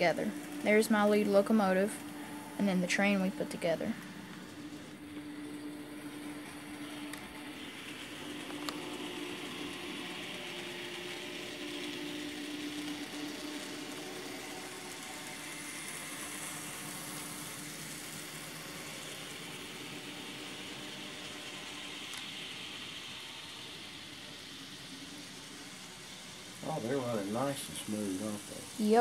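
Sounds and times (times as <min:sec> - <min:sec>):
model train motor hum: 0:00.0 - 0:29.0
wheels whirring on track: 0:00.0 - 0:29.0.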